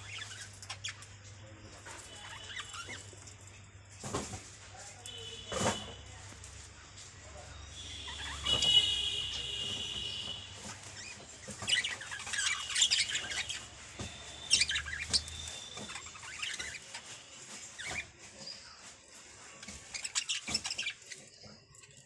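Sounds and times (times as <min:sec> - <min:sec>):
parrots chirping and twittering: 0:00.0 - 0:22.0.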